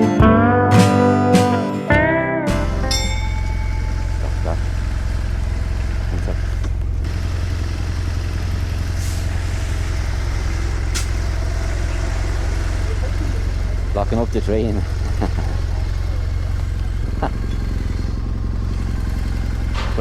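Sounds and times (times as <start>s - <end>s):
motorcycle engine running: 2.7s - 20.0s.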